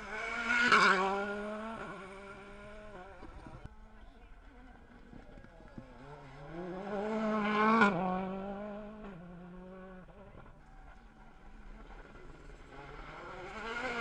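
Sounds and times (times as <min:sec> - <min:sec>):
rally car engine at full throttle: 0:00.0 - 0:14.0.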